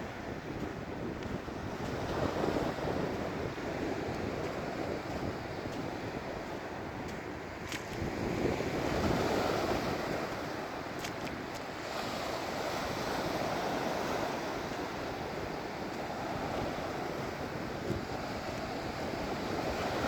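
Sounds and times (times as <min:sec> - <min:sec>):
waves breaking on beach: 0:00.0 - 0:20.0
wind on microphone: 0:00.0 - 0:20.0.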